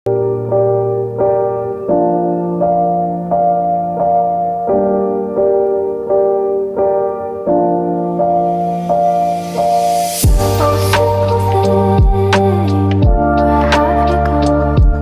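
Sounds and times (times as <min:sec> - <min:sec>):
gentle piano chords: 0:00.1 - 0:15.0.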